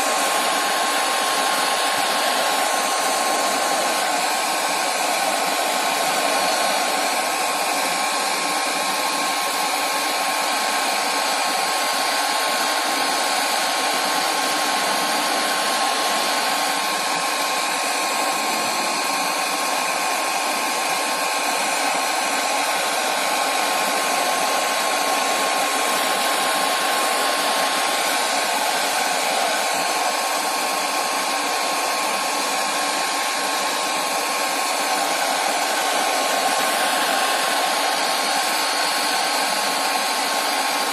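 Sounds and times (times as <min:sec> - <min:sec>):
heat gun blowing hot air: 0:00.0 - 0:40.9.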